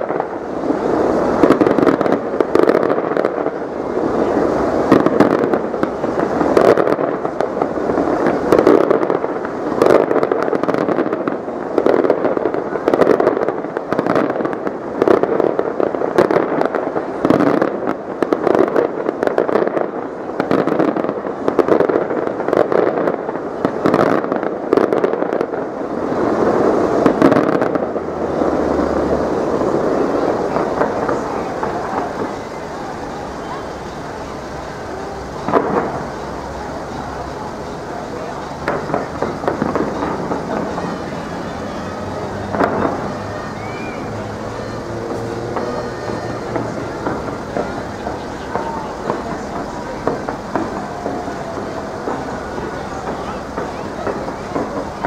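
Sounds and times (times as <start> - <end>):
fireworks popping and crackling: 0.0 - 55.0.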